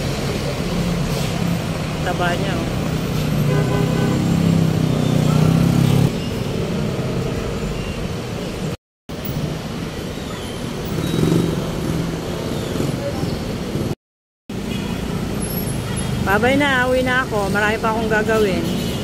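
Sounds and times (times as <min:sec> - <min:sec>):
traffic haze: 0:00.0 - 0:19.0.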